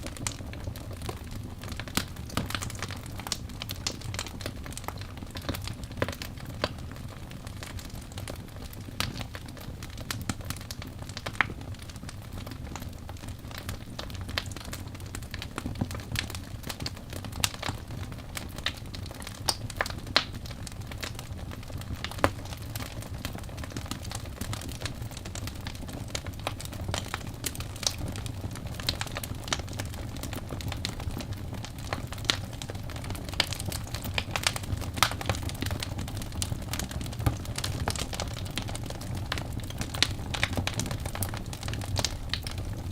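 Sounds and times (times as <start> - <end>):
fire crackles and pops: 0.0 - 42.9
low rumble of flames: 0.0 - 42.9.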